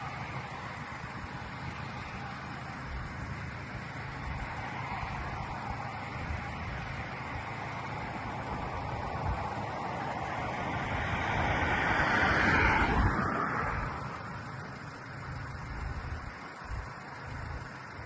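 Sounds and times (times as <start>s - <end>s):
low rumble with hiss: 0.0s - 18.0s.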